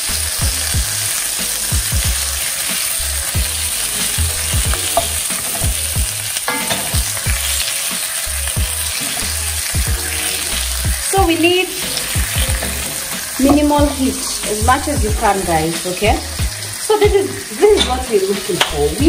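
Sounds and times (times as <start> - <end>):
potatoes sizzling in a frying pan: 0.0 - 19.0.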